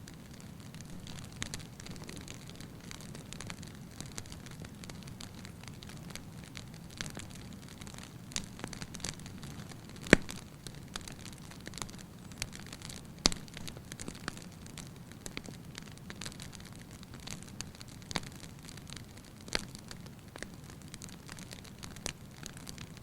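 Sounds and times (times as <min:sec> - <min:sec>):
fireplace fire crackling and popping: 0:00.0 - 0:23.0.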